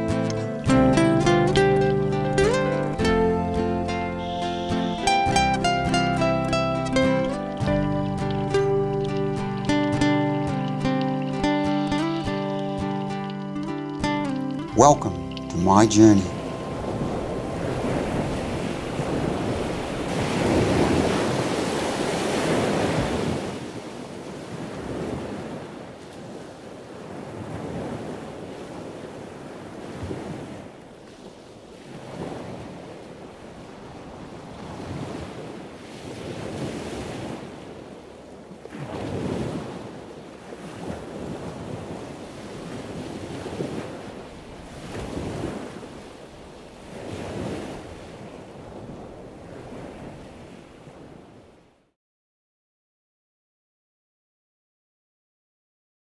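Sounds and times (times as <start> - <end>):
sea waves washing in: 0.0 - 51.9.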